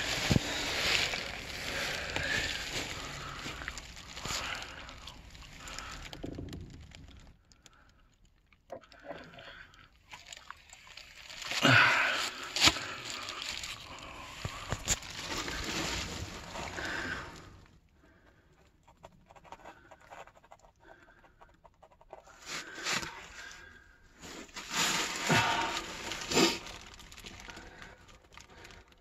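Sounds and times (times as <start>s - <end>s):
person moving in crawlspace: 0.0s - 29.0s.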